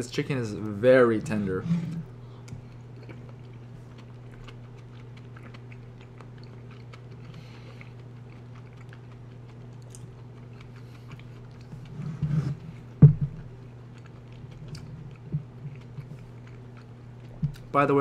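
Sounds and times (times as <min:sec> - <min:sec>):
steady low hum: 0:00.0 - 0:18.0
person chewing food: 0:02.0 - 0:17.7.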